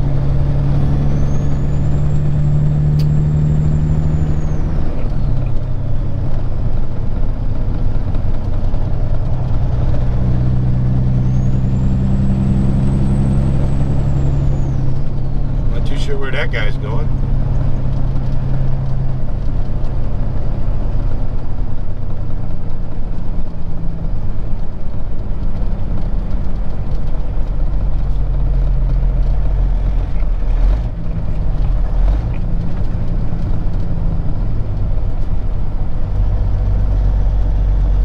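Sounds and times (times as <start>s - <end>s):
road and wind noise: 0.0s - 38.0s
truck diesel engine running: 0.0s - 38.0s.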